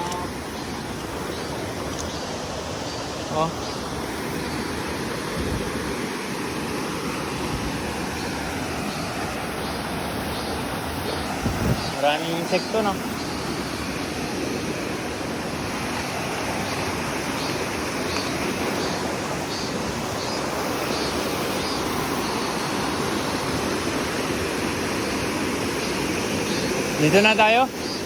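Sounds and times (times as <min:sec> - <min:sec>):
faint high insect chirps: 0:00.0 - 0:05.8, 0:06.8 - 0:28.0
stream and waterfall rushing: 0:00.0 - 0:28.0.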